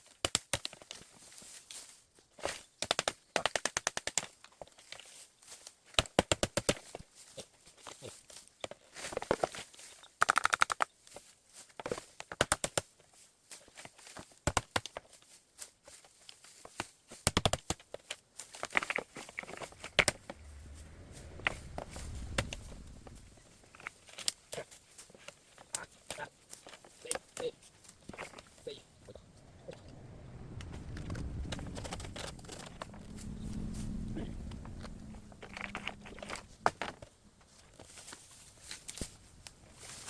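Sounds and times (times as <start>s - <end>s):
dry bamboo crackling and snapping: 0.0s - 40.0s.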